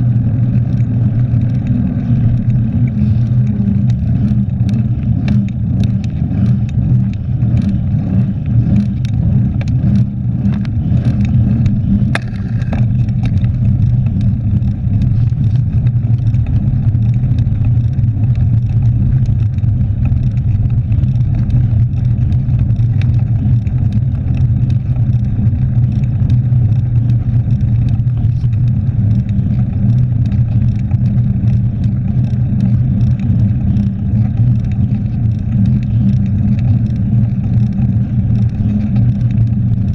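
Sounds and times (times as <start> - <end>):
bike rattling clicks: 0.0 - 39.9
tyre road rumble: 0.0 - 39.9
wind on microphone: 0.0 - 39.9.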